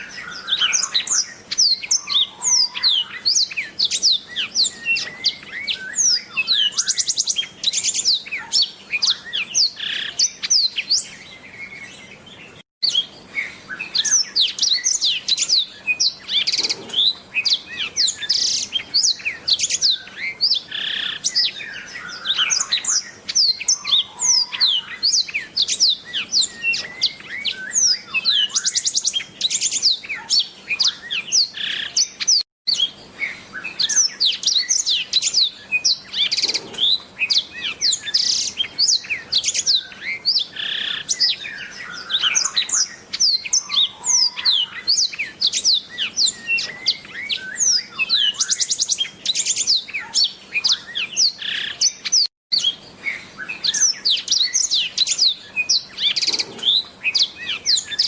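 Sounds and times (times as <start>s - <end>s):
bird singing whistles and trills: 0.0s - 58.0s.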